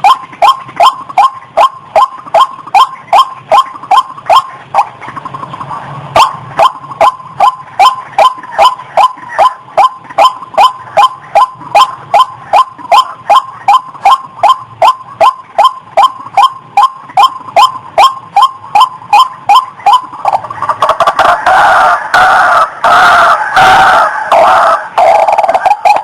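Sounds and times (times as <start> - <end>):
rail bird calling: 0.0 - 26.0.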